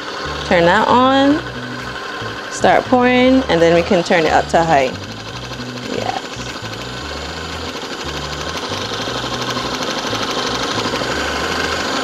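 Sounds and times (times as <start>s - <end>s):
food processor motor whirring: 0.0s - 12.0s.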